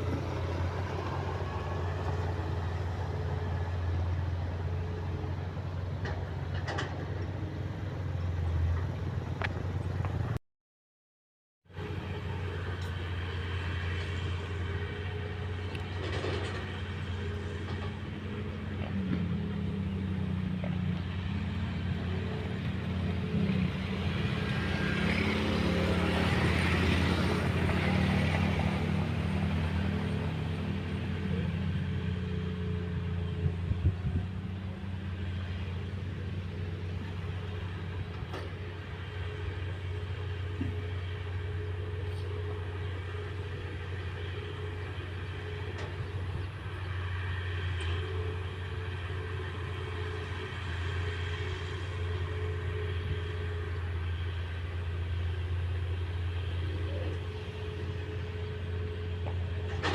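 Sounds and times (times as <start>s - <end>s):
heavy diesel machinery drone: 0.0s - 10.4s, 11.7s - 59.9s.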